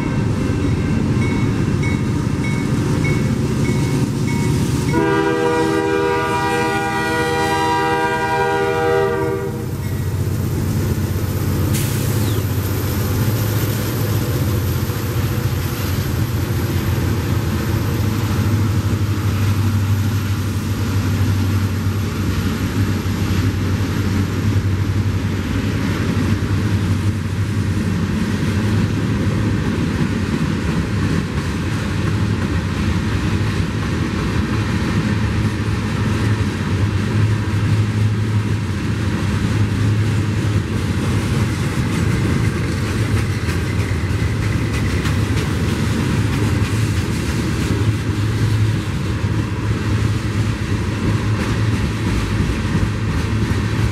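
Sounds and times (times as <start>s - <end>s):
diesel locomotive passing: 0.0s - 53.9s
train wheels rumbling on rail: 0.0s - 53.9s.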